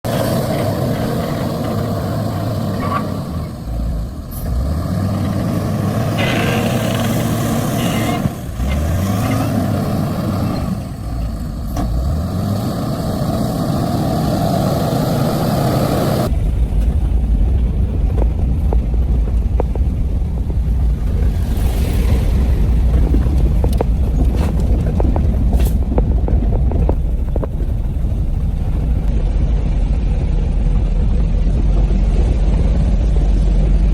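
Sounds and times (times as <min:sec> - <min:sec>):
heavy vehicle engine revving: 0:00.0 - 0:33.9.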